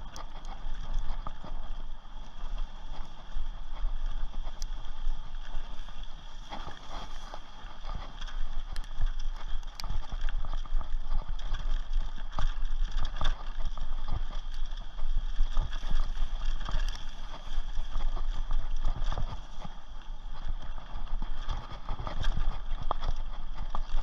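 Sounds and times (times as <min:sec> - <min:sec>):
bike knocking and rattling: 0:00.0 - 0:24.0
bike tyres rolling on dirt: 0:00.0 - 0:24.0.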